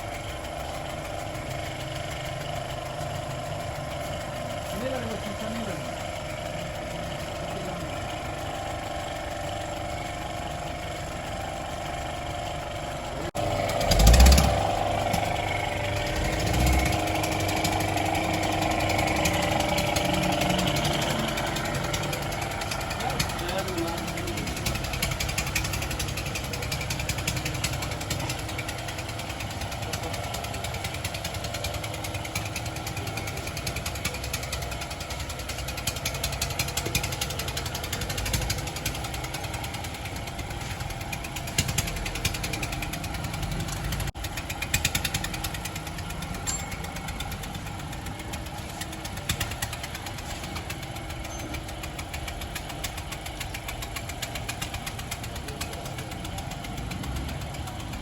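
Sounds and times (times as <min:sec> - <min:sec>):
car engine idling: 0:00.0 - 0:58.0
fast ticking knock: 0:00.0 - 0:58.0.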